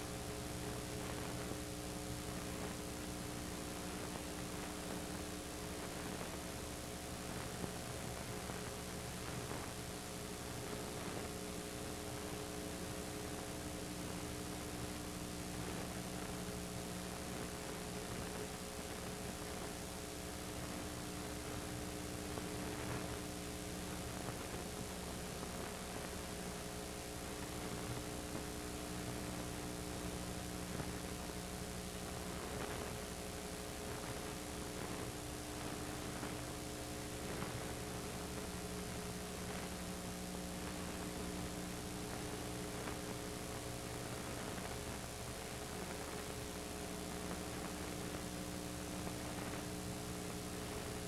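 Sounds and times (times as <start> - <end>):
electrical mains hum: 0.0 - 51.0.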